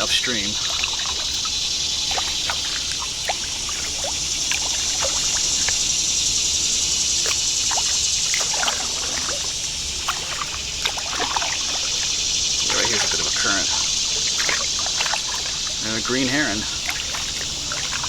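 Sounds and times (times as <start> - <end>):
kayak paddle strokes on water: 0.0 - 18.0
steady high-pitched hiss: 0.0 - 18.0
water dripping off paddle: 0.0 - 18.0.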